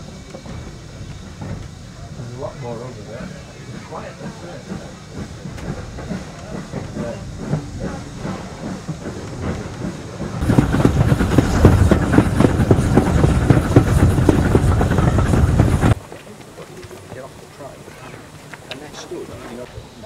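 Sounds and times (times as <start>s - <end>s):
rhythmic beating of train: 0.0s - 20.0s
train rumbling from inside carriage: 0.0s - 20.0s.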